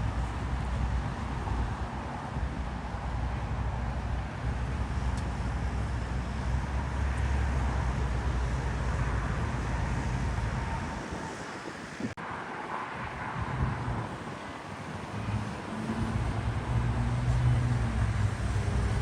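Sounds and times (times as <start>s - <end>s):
large vehicle engine rumbling: 0.0s - 12.2s, 13.4s - 19.0s
wind noise on microphone: 0.0s - 19.0s.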